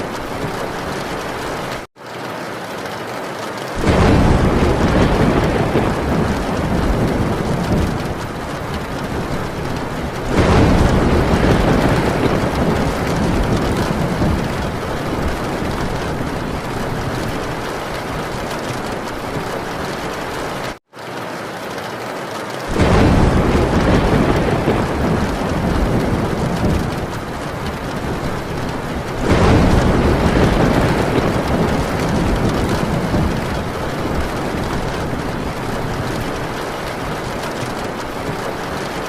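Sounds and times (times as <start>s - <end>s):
heavy rain on a tin roof: 0.0s - 39.0s
thunder: 3.8s - 20.8s, 22.7s - 39.0s.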